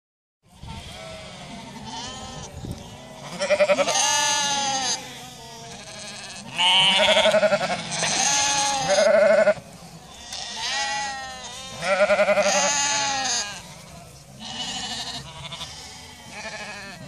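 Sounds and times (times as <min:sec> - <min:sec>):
sheep bleating: 0:00.5 - 0:17.0.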